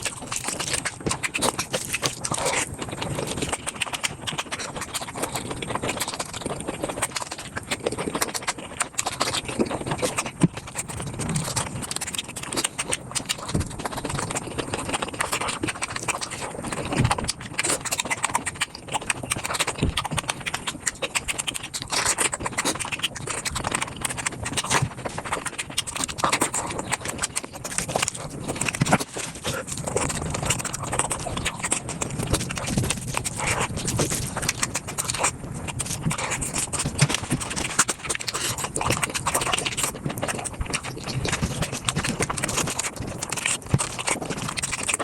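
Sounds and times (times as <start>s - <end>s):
crunching and wet chewing: 0.0s - 45.0s.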